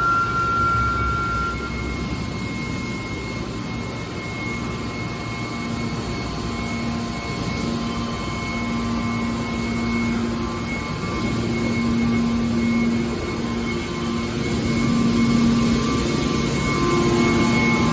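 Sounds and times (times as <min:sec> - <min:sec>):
hydraulic baler machine hum: 0:00.0 - 0:04.4, 0:06.3 - 0:17.9.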